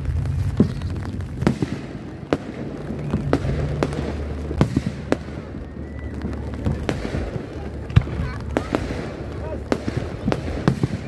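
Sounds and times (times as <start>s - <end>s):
firework shells bursting: 0.0s - 11.0s
low rumble: 0.0s - 11.0s.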